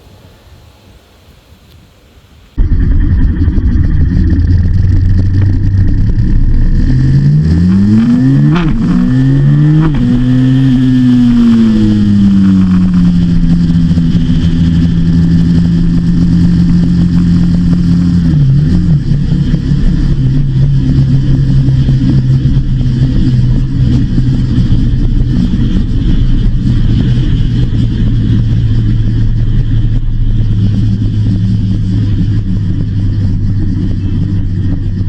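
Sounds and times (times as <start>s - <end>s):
motorcycle engine accelerating: 2.6s - 35.0s.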